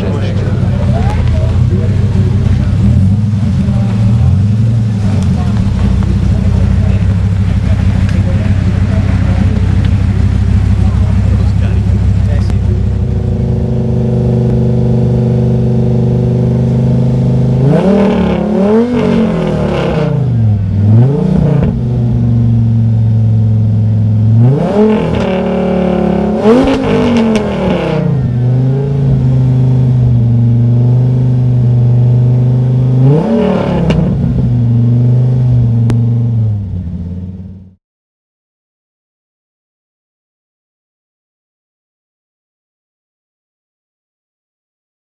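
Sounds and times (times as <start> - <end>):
car engine idling: 0.0 - 37.8
engine throttle blips: 0.0 - 37.8.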